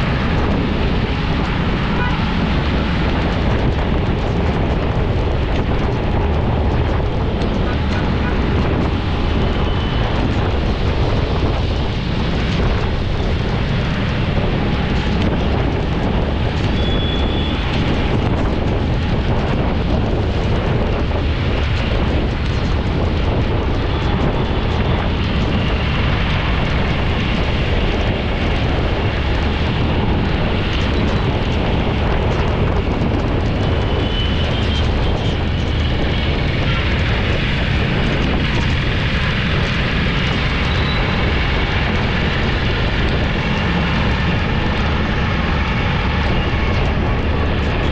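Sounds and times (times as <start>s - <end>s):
vehicle road noise on wet road: 0.0s - 47.9s.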